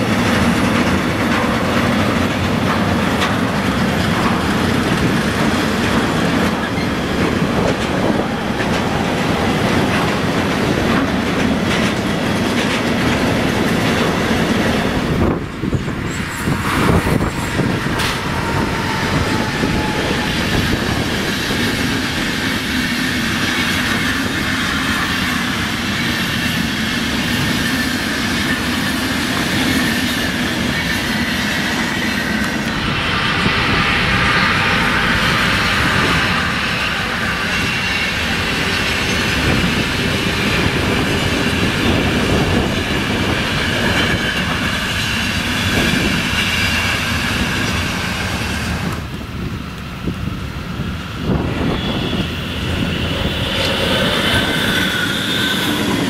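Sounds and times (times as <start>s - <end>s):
freight train wheels clicking: 0.0s - 56.0s
train passing at speed: 0.0s - 56.0s.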